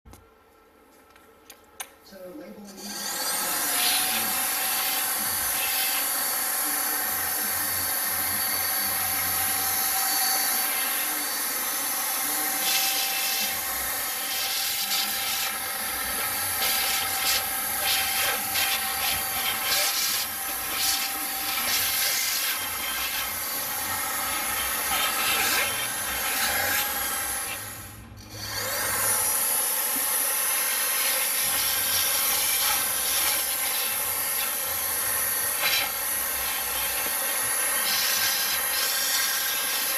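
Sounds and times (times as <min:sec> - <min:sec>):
vacuum motor whine: 0:02.7 - 0:39.9.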